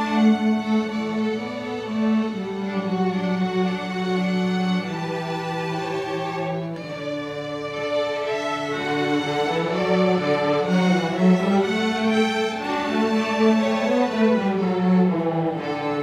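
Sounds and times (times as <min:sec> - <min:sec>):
orchestra strings holding long notes: 0:00.0 - 0:16.0.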